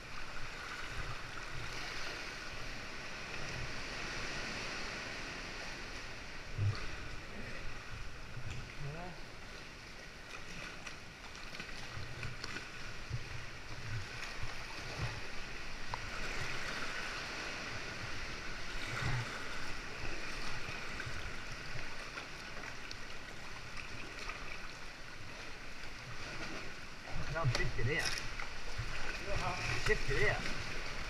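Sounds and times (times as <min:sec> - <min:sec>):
water sloshing around kayak: 0:00.0 - 0:31.0.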